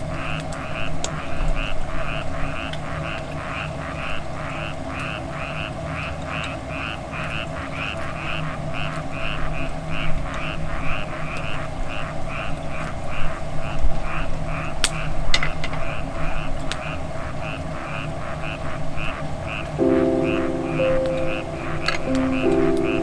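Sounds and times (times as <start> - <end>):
frog croaking: 0.0 - 23.0.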